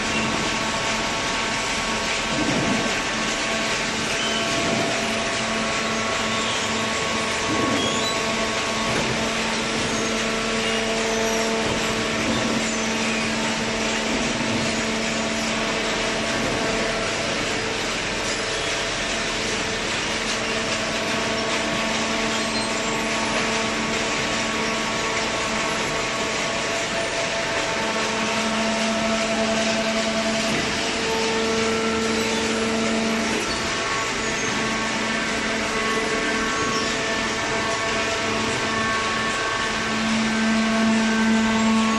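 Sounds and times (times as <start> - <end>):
baler hydraulic pump humming: 0.0 - 41.9.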